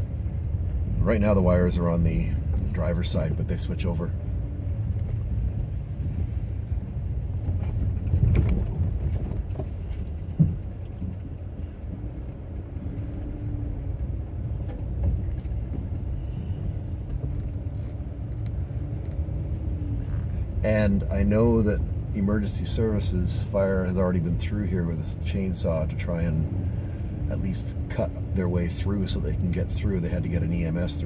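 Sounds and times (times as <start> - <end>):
van engine and tyres rumbling: 0.0 - 31.0.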